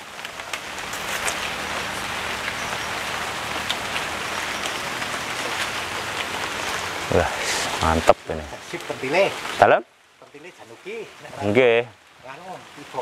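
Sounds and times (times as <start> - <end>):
raindrop ticks: 0.0 - 11.6
light drizzle hissing: 0.0 - 13.0.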